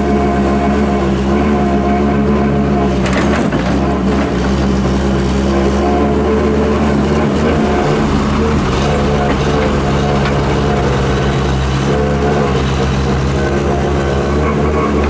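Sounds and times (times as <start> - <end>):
diesel engines running: 0.0 - 15.0.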